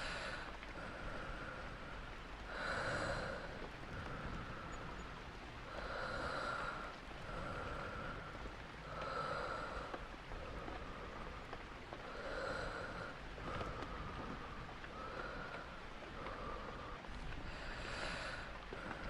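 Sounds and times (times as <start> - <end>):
person breathing slowly: 0.0 - 19.0
steady rain: 0.0 - 19.0.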